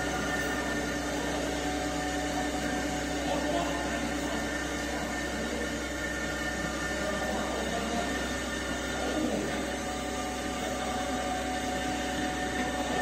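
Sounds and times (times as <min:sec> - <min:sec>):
lathe machine hum: 0:00.0 - 0:13.0.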